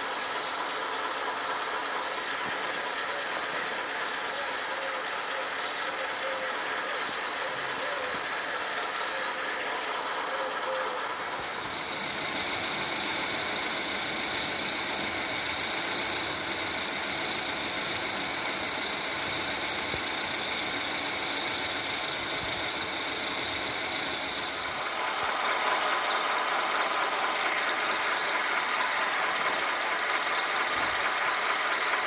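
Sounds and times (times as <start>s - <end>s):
steam locomotive exhaust beats: 0.0s - 32.0s.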